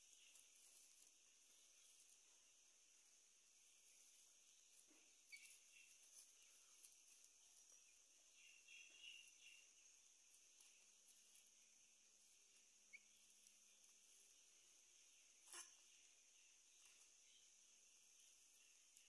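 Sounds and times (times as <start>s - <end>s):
faint high chirps: 0.0s - 19.0s
faint steady hiss: 0.0s - 19.0s.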